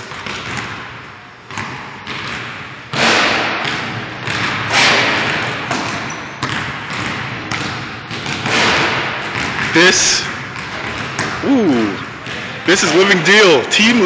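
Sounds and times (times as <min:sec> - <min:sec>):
basketball bouncing on gym floor: 0:00.0 - 0:14.0.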